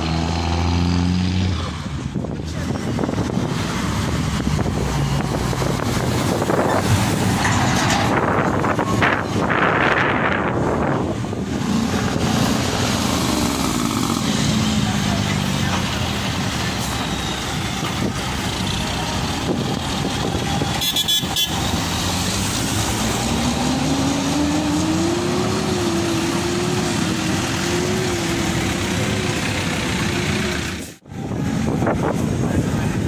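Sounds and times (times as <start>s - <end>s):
diesel truck engine running: 1.5s - 33.0s.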